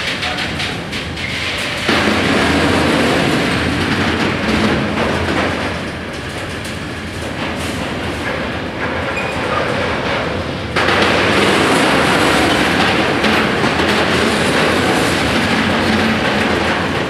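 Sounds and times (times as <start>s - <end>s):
steel wheels rumbling on rail: 0.0s - 17.0s
wheels knocking on rail joints: 0.0s - 17.0s.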